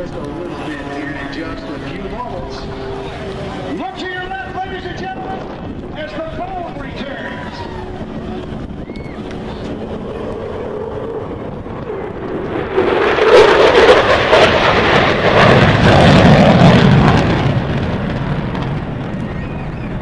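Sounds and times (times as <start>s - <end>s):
jet engines flyby: 0.0s - 20.0s.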